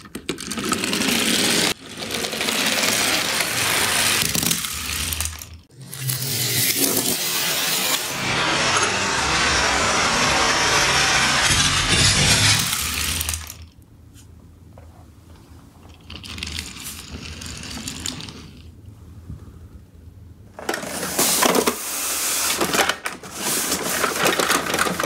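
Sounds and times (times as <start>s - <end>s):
toy cars rolling down ramp: 0.0s - 13.8s, 15.8s - 18.8s, 20.6s - 25.0s
toy truck rolling on floor: 0.0s - 13.8s, 14.8s - 18.8s, 20.6s - 25.0s.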